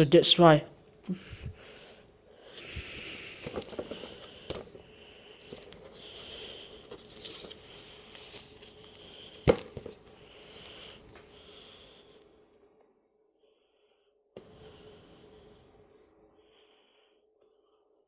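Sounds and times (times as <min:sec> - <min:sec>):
low hiss and hum: 0:00.0 - 0:18.0.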